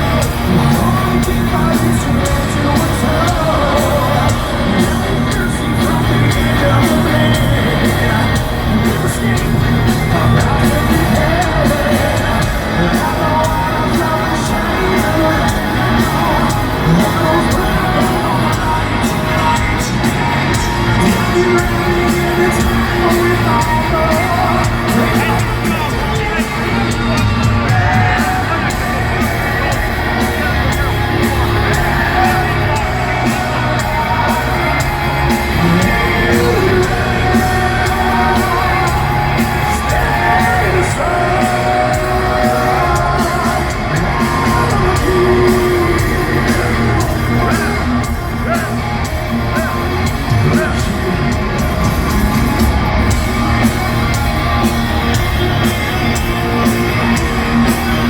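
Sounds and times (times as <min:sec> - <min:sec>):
crowd yelling and whooping: 0:00.0 - 0:58.0
live heavy metal band: 0:00.0 - 0:58.0.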